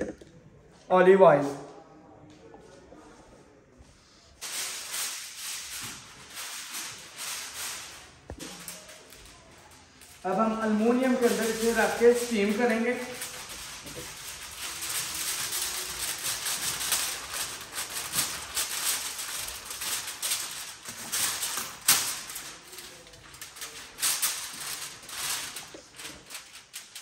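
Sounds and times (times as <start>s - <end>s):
aluminium foil crinkling: 4.4s - 27.0s.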